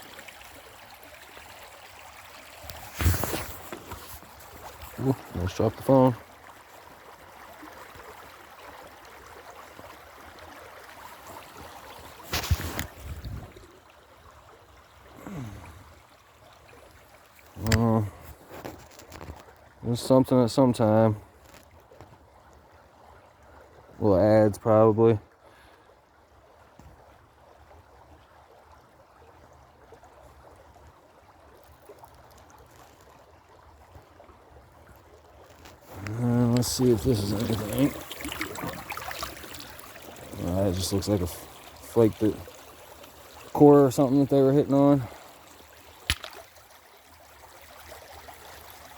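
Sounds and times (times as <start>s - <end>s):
creek water running: 0.0s - 48.9s.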